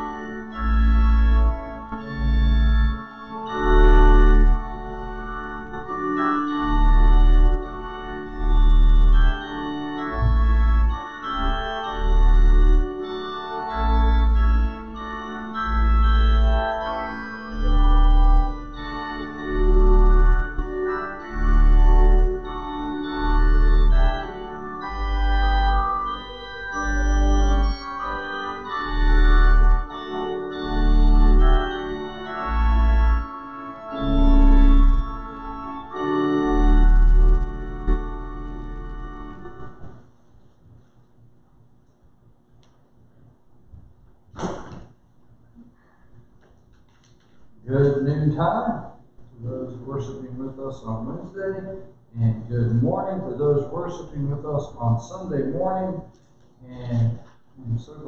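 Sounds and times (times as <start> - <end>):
deep organ bass note: 0.0 - 40.2, 47.6 - 58.0
organ sustained chords: 0.0 - 58.0.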